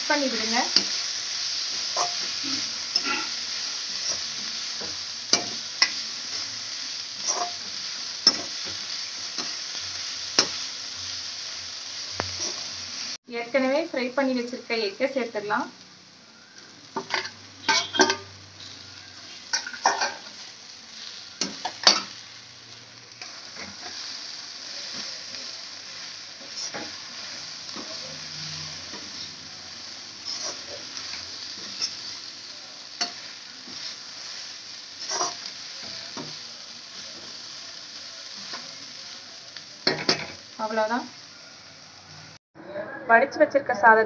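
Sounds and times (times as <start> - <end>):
food sizzling in a pan: 0.0 - 42.4.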